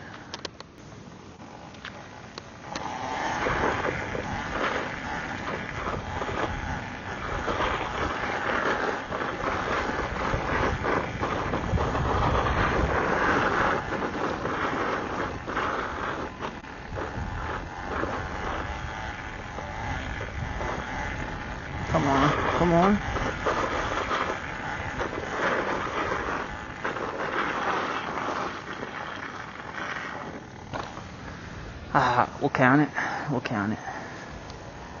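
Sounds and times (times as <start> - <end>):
electric dirt bike drivetrain noise: 0.0 - 35.0
wind rushing over microphone: 1.4 - 33.0.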